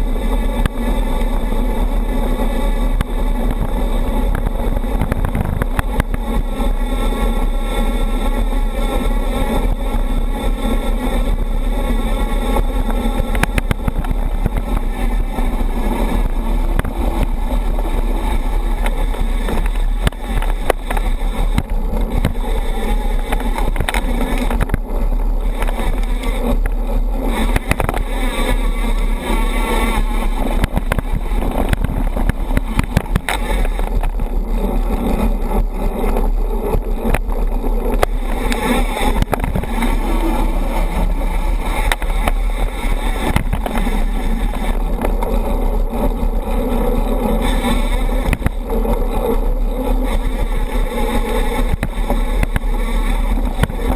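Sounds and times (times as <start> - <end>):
bike clicks and knocks: 0.0 - 53.9
tyres rolling on gravel: 0.0 - 53.9
wind rumble on microphone: 0.0 - 53.9.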